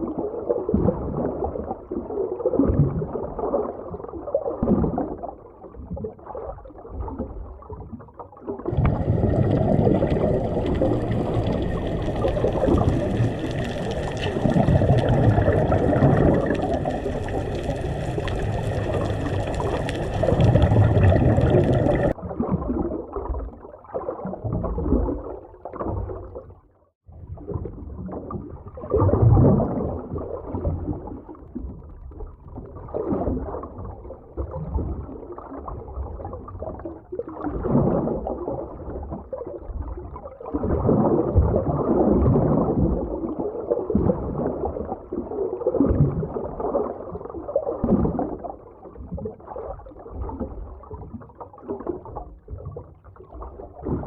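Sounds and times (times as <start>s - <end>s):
underwater water gurgling: 0.0s - 54.0s.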